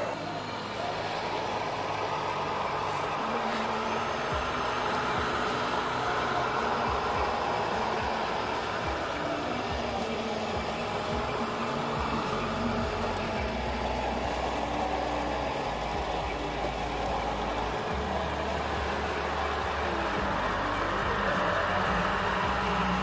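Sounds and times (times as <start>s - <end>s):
engine running: 0.0s - 23.0s
faint steady tones: 0.0s - 23.0s.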